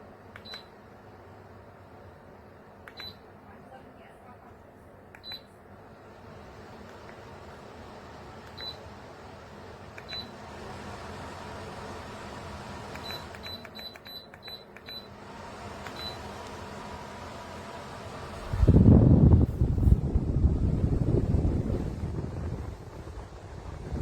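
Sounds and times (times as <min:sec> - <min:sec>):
fan airflow hiss: 0:00.0 - 0:13.7, 0:14.8 - 0:24.0.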